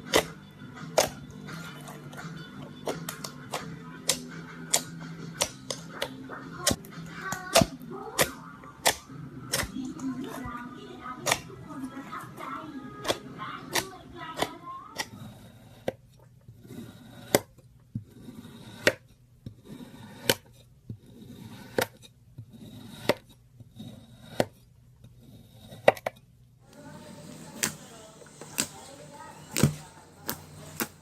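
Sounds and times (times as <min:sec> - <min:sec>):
slime squishing: 0:00.0 - 0:24.7, 0:26.7 - 0:31.0.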